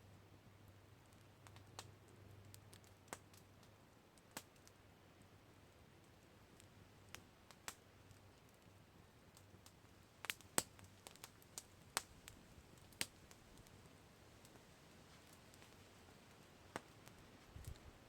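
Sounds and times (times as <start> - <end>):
faint low hiss: 0.0 - 18.0
campfire wood popping: 0.8 - 18.0.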